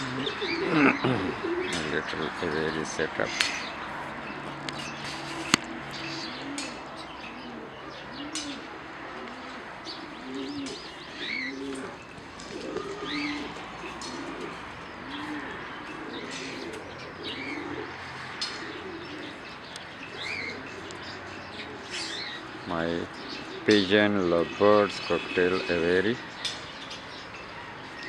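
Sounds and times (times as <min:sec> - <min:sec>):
parrots chirping: 0:00.0 - 0:28.0
pigeons cooing: 0:00.0 - 0:28.0.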